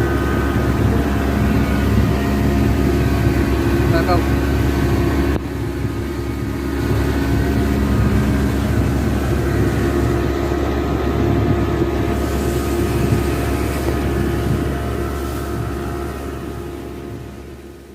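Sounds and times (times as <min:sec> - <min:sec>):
rushing water noise: 0:00.0 - 0:17.9
speedboat engine running: 0:00.0 - 0:17.9.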